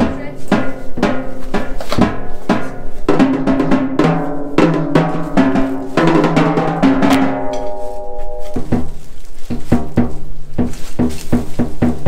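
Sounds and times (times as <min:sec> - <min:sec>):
drum kit hits on snare and toms: 0:00.0 - 0:12.0.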